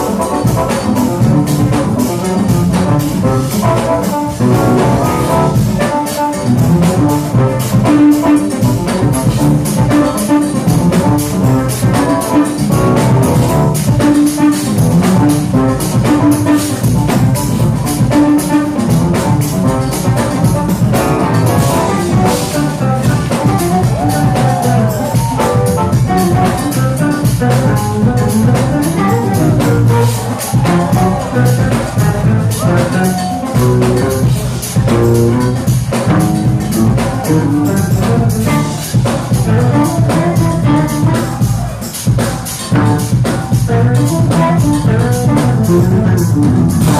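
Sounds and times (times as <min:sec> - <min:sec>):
jazz fusion band playing: 0:00.0 - 0:46.9.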